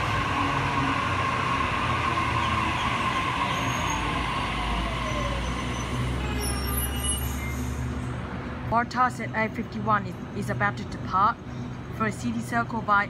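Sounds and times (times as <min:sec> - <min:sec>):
train hum and rumble: 0:00.0 - 0:13.0.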